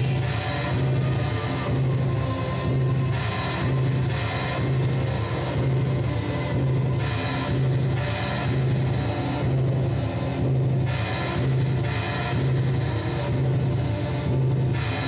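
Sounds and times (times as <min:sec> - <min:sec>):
distorted throbbing band drone: 0:00.0 - 0:15.0.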